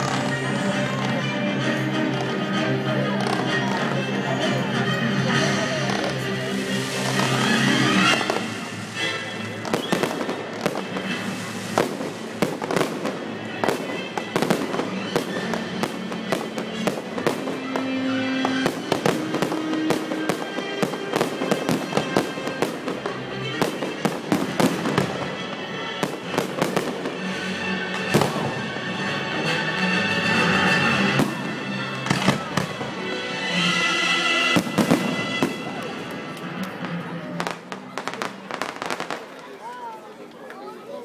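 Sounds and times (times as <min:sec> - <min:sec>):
fireworks bursting and crackling: 0:00.0 - 0:01.2, 0:03.1 - 0:40.8
music playing: 0:00.0 - 0:39.1.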